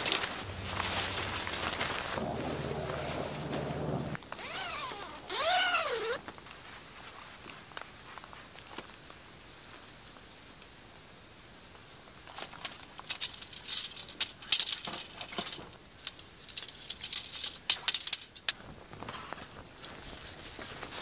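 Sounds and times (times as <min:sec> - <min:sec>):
camping gear rustling: 0:00.0 - 0:09.3, 0:12.1 - 0:21.0.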